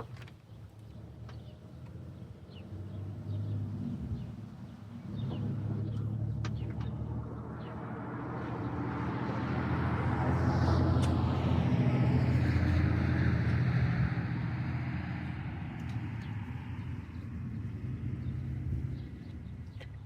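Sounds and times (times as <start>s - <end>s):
vehicle driving past: 1.9s - 19.6s.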